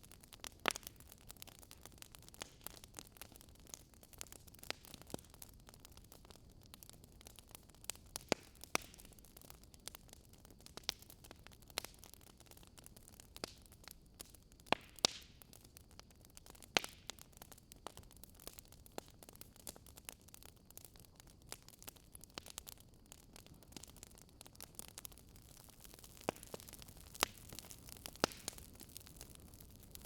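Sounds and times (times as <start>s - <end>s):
fire popping and snapping: 0.0s - 30.0s
wood fire crackling: 0.0s - 30.0s.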